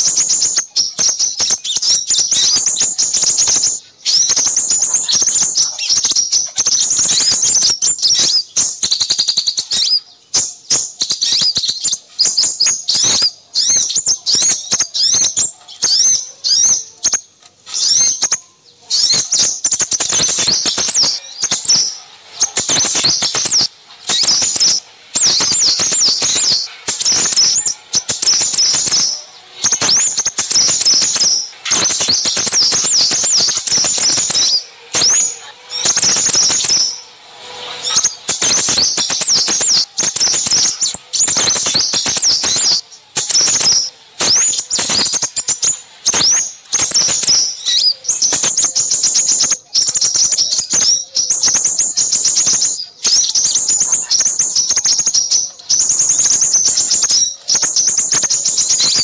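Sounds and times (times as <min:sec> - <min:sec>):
small birds twittering: 0:00.0 - 0:59.0.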